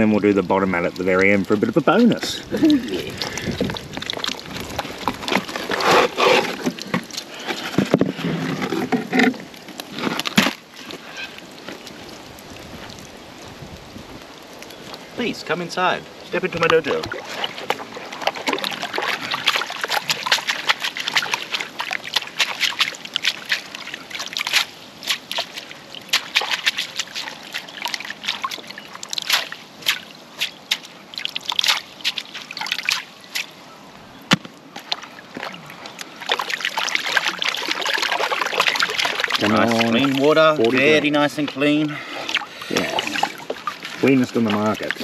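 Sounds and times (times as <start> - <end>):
water sloshing and splashing: 0.0 - 45.0.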